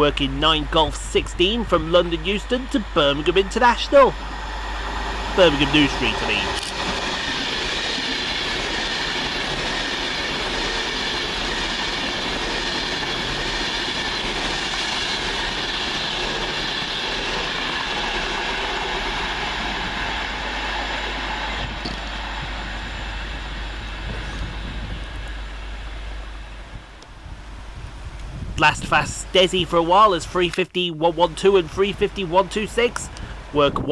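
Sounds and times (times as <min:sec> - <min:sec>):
train high whining tones: 0:00.0 - 0:28.0
wheels rushing on rail: 0:00.0 - 0:33.9.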